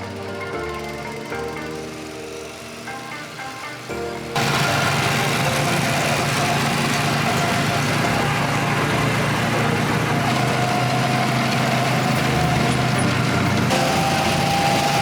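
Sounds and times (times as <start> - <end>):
go-kart engines running: 0.0 - 15.0.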